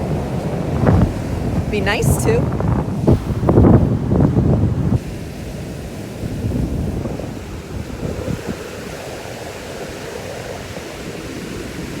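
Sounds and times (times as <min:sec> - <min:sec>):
ocean surf washing on beach: 0:00.0 - 0:12.0
wind buffeting microphone: 0:00.0 - 0:12.0.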